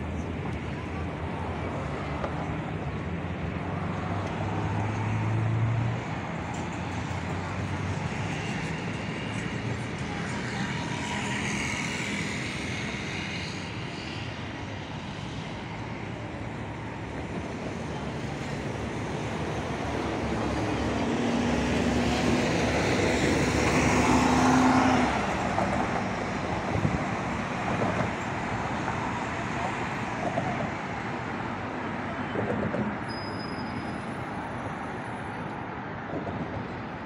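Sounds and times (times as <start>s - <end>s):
traffic hum: 0.0s - 37.0s.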